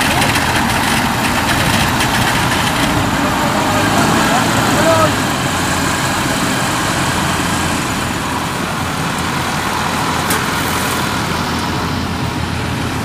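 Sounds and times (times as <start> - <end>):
harvesting machine engine running: 0.0 - 13.0.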